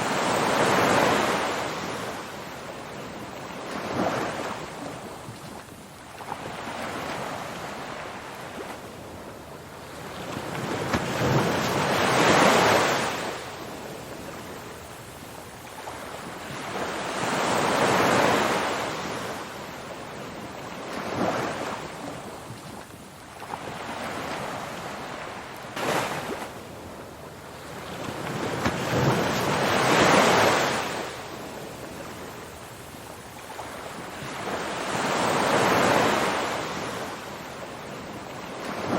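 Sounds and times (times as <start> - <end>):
ocean waves breaking: 0.0 - 14.9, 15.8 - 38.9.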